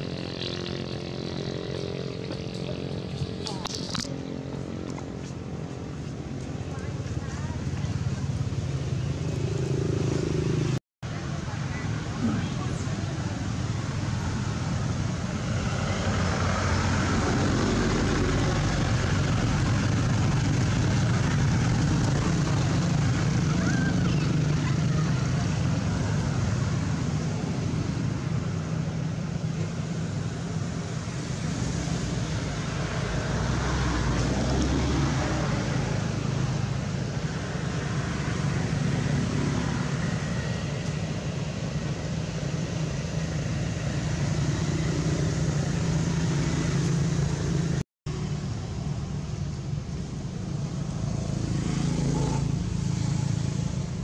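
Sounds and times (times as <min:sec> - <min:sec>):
low motor hum: 0:00.0 - 0:54.0.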